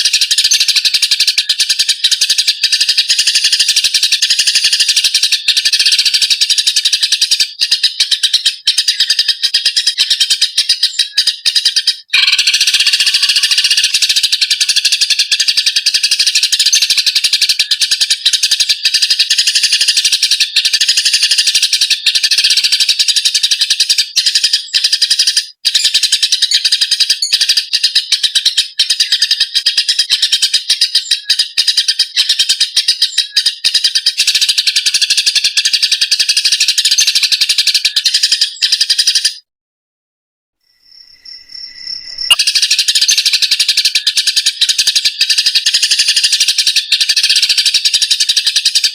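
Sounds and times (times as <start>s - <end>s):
sparrows chattering: 0.0s - 39.4s, 40.9s - 48.9s.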